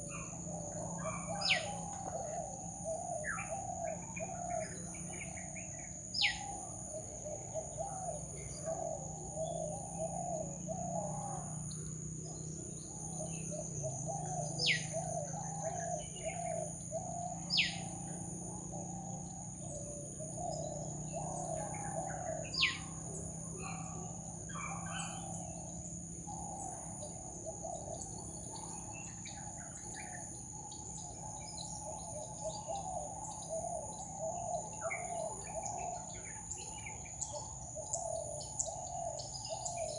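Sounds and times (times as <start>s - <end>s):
birds calling: 0.0s - 39.9s
high insect drone: 0.0s - 39.9s.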